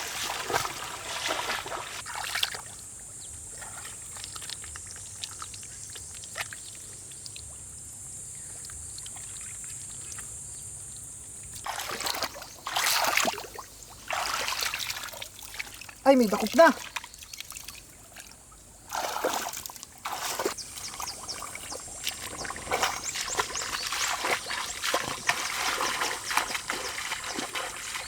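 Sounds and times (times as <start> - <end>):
water sloshing and splashing: 0.0 - 7.7, 11.5 - 28.0.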